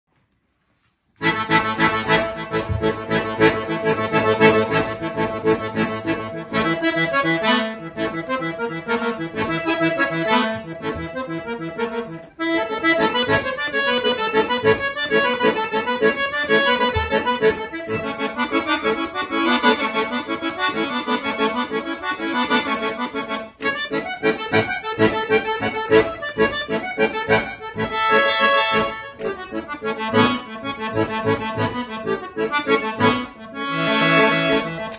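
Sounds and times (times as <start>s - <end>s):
solo accordion playing: 1.2s - 34.9s.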